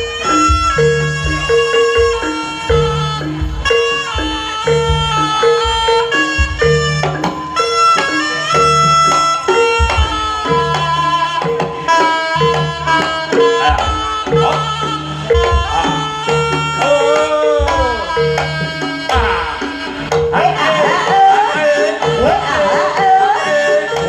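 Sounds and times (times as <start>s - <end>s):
gong and metallophone tones: 0.0s - 24.0s
hand drumming: 0.0s - 24.0s
wavering melody with bending pitch: 0.0s - 24.0s.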